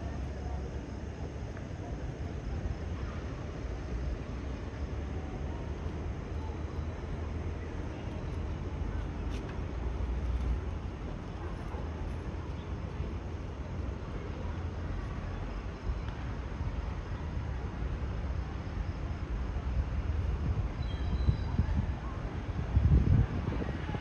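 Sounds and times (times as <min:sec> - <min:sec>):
haze of noise: 0:00.0 - 0:24.0
low city rumble: 0:00.0 - 0:24.0.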